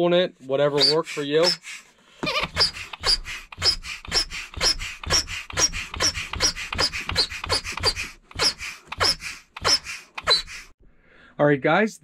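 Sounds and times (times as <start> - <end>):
bellows pump puffing and squeaking: 0.6 - 10.8.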